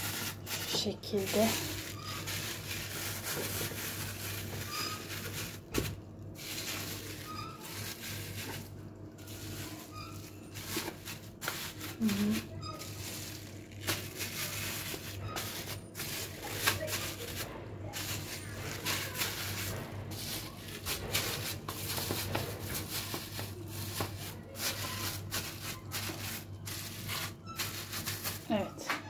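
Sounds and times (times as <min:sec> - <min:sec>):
plastic bags rustling and crinkling: 0:00.0 - 0:28.9.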